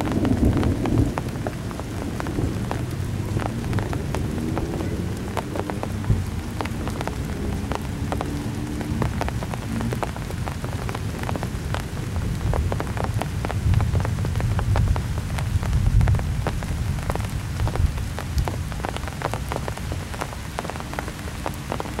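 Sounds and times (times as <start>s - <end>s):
heavy rain on hard surface: 0.0s - 22.0s.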